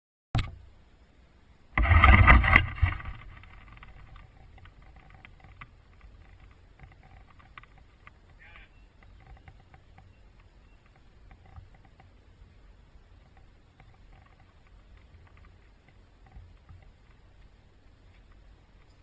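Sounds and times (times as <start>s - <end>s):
faint low rumble: 0.4s - 19.0s.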